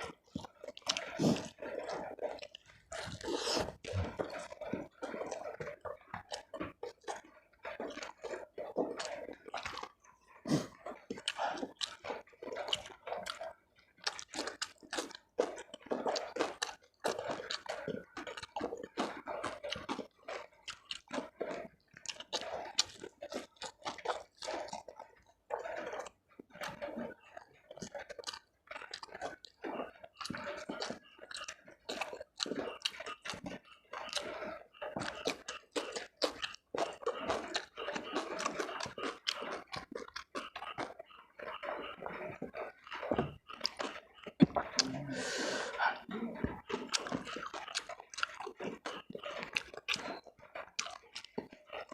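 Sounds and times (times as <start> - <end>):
wet chewing and lip-smacking: 0.0 - 51.9.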